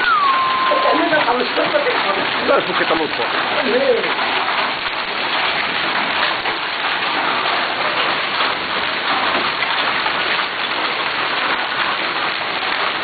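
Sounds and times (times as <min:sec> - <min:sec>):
heavy hail and rain: 0:00.0 - 0:13.0.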